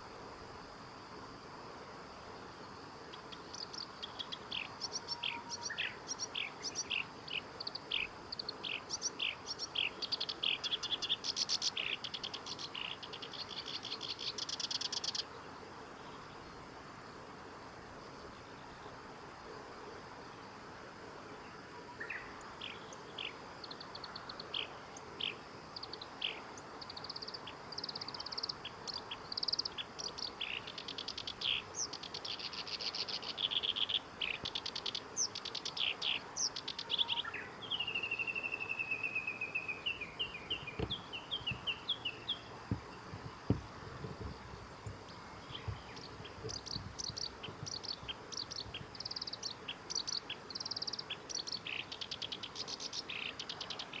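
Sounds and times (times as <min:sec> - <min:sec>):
warbler singing: 0:03.1 - 0:15.3, 0:22.0 - 0:43.6, 0:44.4 - 0:54.0.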